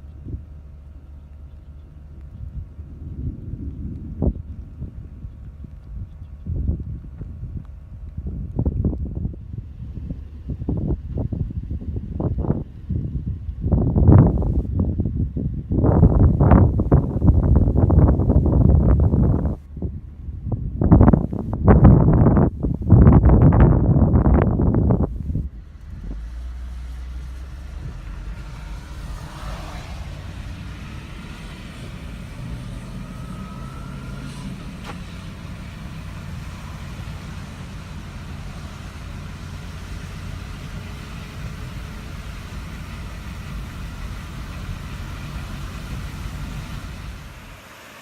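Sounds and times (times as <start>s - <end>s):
wind buffeting microphone: 0.0s - 47.7s
car engine rumbling: 0.0s - 48.0s.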